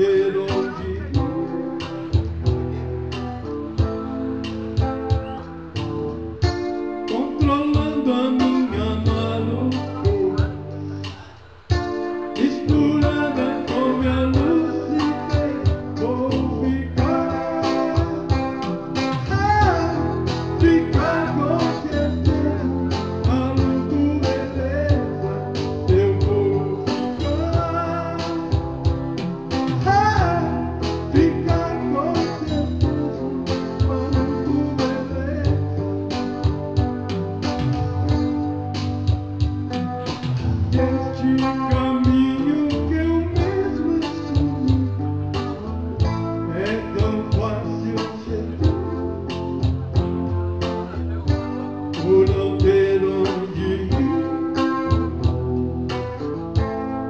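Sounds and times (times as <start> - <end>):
live guitar music: 0.0 - 57.0.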